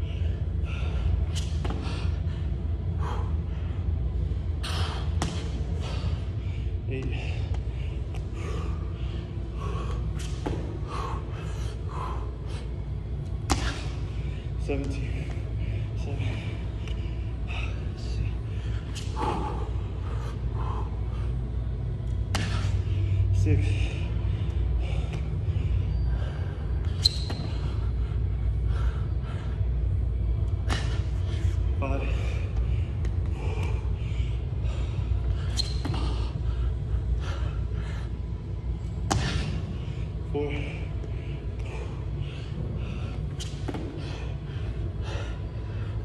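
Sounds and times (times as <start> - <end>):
low rumble of room noise: 0.0 - 46.0
man breathing hard and gasping: 0.0 - 46.0
steady low hum: 0.0 - 46.0.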